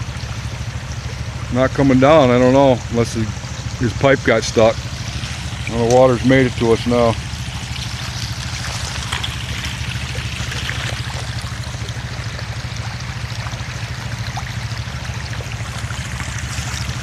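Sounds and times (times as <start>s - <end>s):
steady low hum: 0.0s - 17.0s
water trickling over stones: 0.0s - 17.0s.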